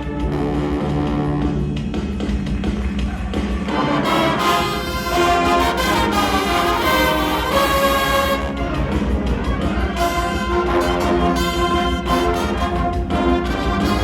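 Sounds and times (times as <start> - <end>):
brass chords: 0.0 - 1.8, 3.6 - 14.0.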